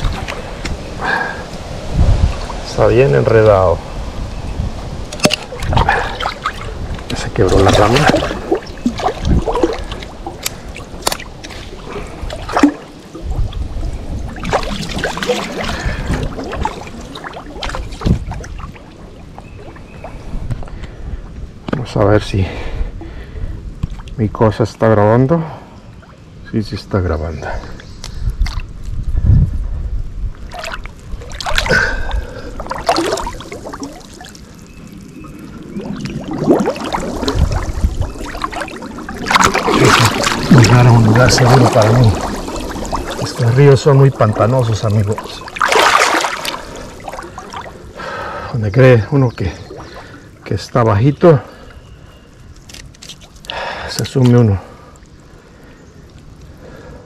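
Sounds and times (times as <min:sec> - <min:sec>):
water sloshing and splashing: 0:00.0 - 0:21.4, 0:23.8 - 0:24.2, 0:28.4 - 0:29.0, 0:30.3 - 0:57.0.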